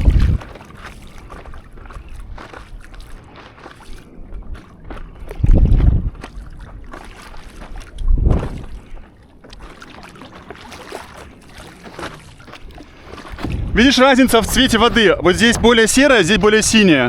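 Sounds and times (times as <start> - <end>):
wind buffeting microphone: 0.0 - 9.6, 10.9 - 17.0
water sloshing and splashing: 0.0 - 17.0.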